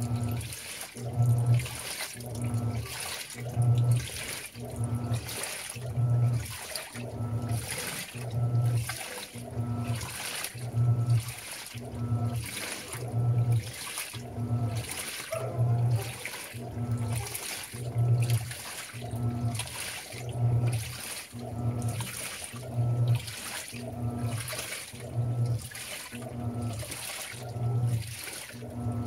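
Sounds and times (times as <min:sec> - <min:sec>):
washing machine motor humming: 0:00.0 - 0:29.0
water sloshing in tub: 0:00.0 - 0:29.0.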